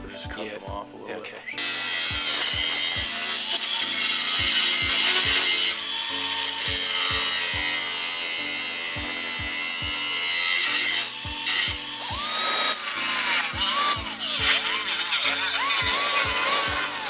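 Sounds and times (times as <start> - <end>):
angle grinder grinding metal: 0.0 - 17.0
background music with steady beat: 0.0 - 17.0.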